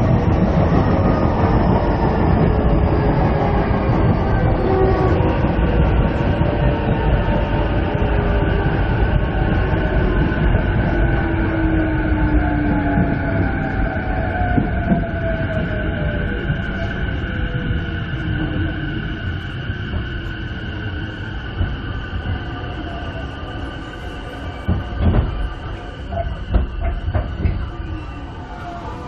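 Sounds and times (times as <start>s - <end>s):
wheels rumbling on rail: 0.0s - 29.0s.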